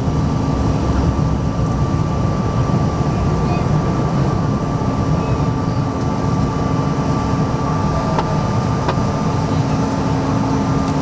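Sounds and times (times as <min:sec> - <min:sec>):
jet engines at climb power: 0:00.0 - 0:11.0.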